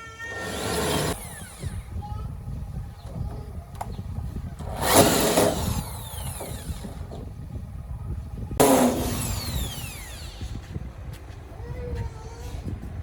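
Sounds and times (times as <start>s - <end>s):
electric power tool whining: 0.0s - 10.8s.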